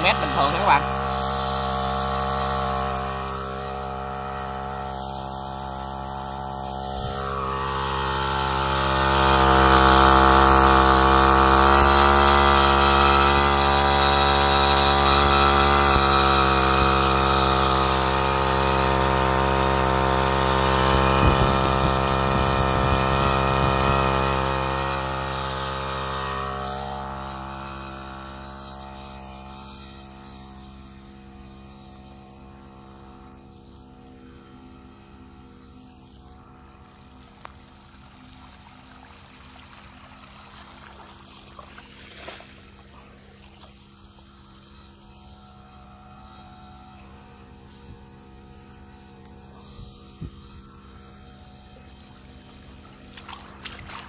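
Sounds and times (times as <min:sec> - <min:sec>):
brushcutter engine running: 0:00.0 - 0:54.0.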